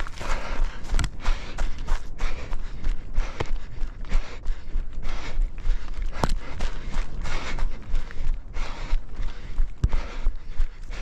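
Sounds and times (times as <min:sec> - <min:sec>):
running footsteps: 0:00.0 - 0:11.0
steady low rumble: 0:00.0 - 0:11.0.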